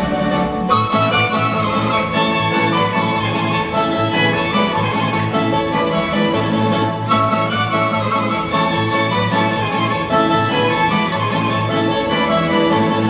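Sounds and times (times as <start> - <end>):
fiddle: 0.0 - 13.0
plucked strings: 0.0 - 13.0.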